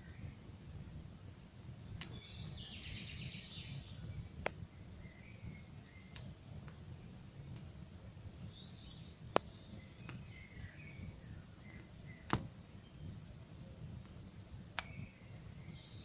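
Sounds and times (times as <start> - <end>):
low rumble of burning fire: 0.0 - 16.0
small birds chirping: 0.0 - 16.0
campfire crackling and popping: 0.4 - 3.0, 3.9 - 15.8.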